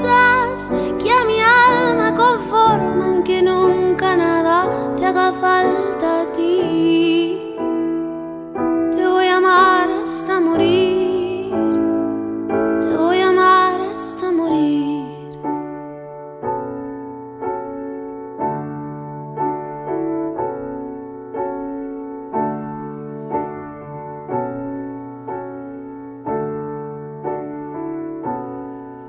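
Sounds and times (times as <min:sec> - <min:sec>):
piano chords in slow ballad: 0:00.0 - 0:29.0.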